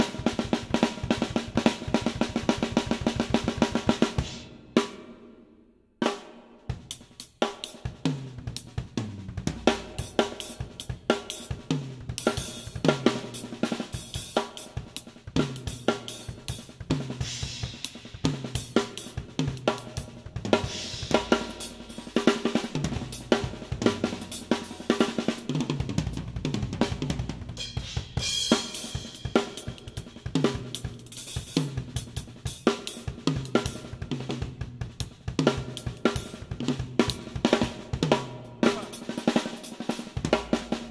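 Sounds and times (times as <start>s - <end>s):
drum kit groove: 0.0s - 5.4s, 6.0s - 40.9s.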